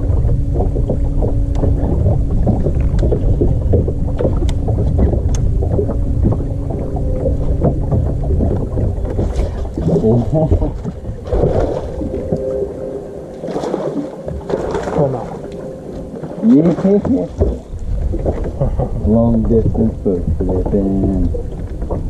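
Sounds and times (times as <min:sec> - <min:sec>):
electric trolling motor hum: 0:00.0 - 0:22.0
water against boat hull: 0:00.0 - 0:22.0
wind rumble on microphone: 0:00.0 - 0:22.0.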